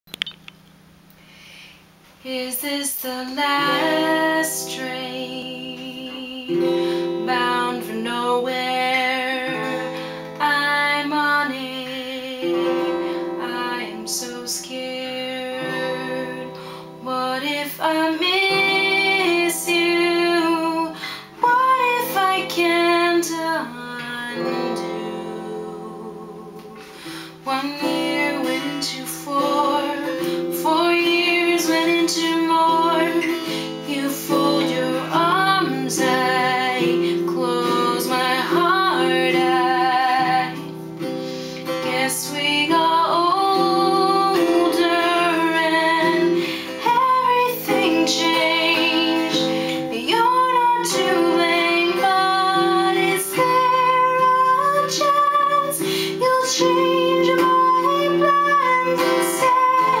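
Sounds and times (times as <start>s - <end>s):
woman singing with vibrato: 2.2s - 60.0s
strummed acoustic guitar: 3.4s - 60.0s.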